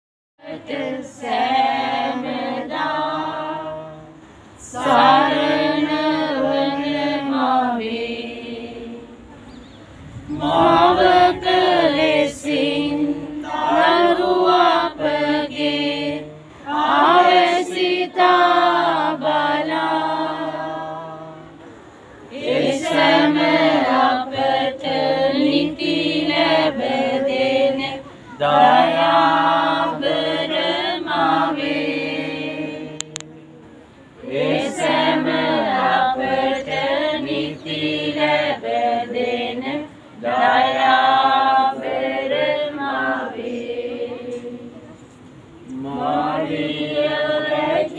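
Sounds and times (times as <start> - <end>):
crowd singing a hymn: 0.4 - 47.9.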